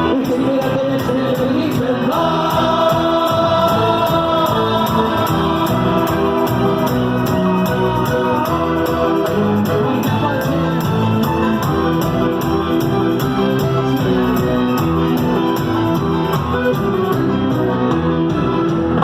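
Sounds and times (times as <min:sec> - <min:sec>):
recorded song with steady beat: 0:00.0 - 0:19.0.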